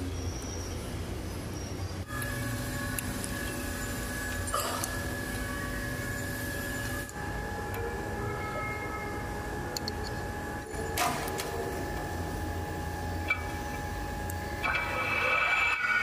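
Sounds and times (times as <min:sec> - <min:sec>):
metal lathe humming and whining: 0:01.6 - 0:16.0.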